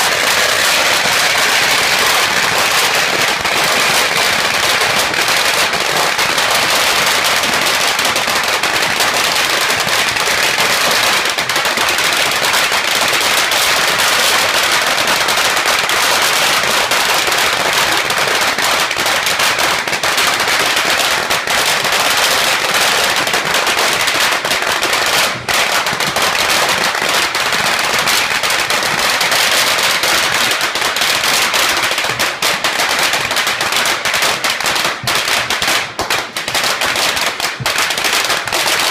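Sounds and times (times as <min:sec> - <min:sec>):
firecrackers rattling bangs: 0:00.0 - 0:38.9.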